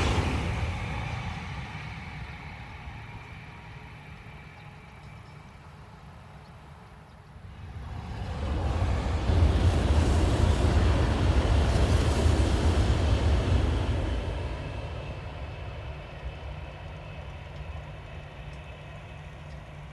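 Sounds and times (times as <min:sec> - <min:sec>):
train rushing past: 0:00.0 - 0:06.1, 0:07.4 - 0:19.9.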